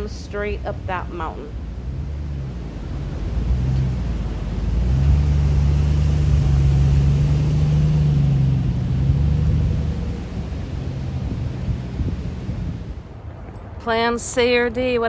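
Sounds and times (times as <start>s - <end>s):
car engine hum and road rumble: 0.0s - 14.4s.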